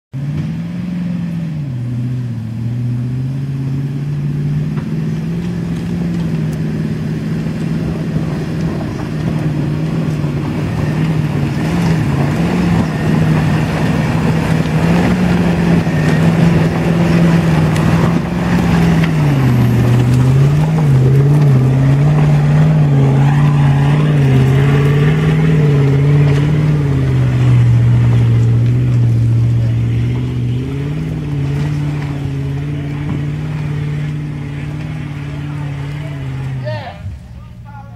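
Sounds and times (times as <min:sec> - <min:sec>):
truck engine working hard: 0:00.1 - 0:37.9.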